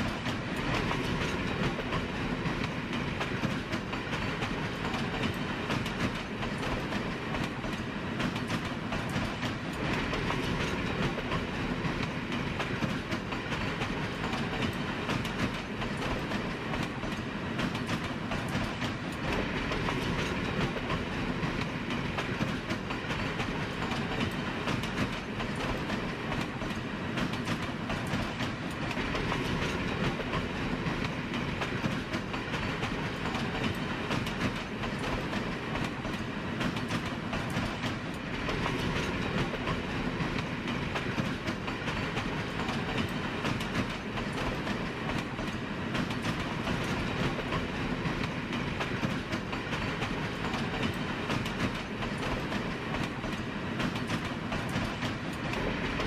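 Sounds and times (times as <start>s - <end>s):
train rumbling and rattling: 0.0s - 56.0s
wheels clicking on rails: 0.0s - 56.0s.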